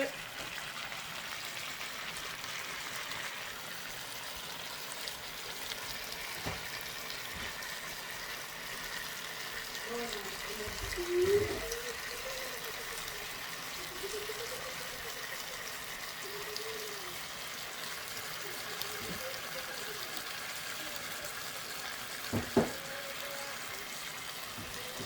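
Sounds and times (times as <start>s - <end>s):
sauce sizzling in a pot: 0.0s - 25.0s.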